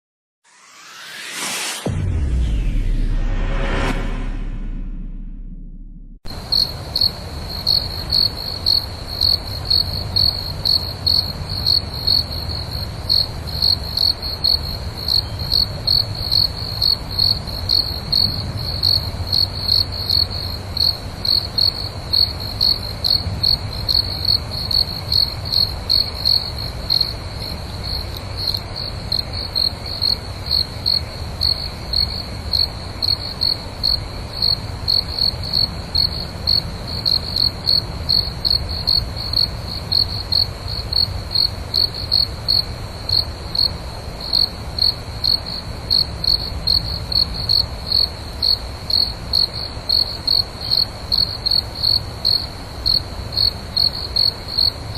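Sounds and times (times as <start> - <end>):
cricket chirping: 6.3 - 54.9.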